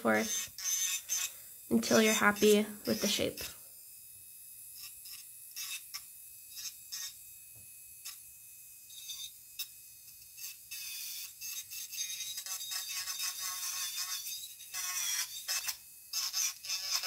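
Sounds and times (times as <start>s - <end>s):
electric nail file grinding: 0.0s - 17.0s.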